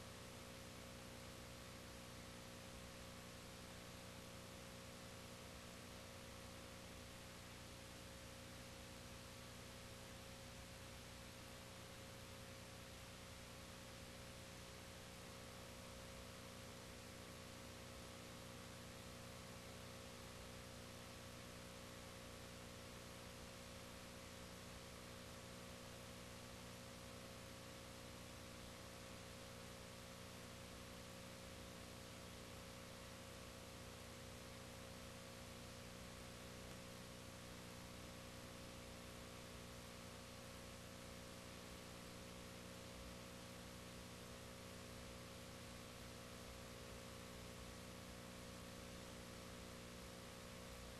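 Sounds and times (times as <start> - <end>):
electrical hum and hiss: 0.0 - 50.9.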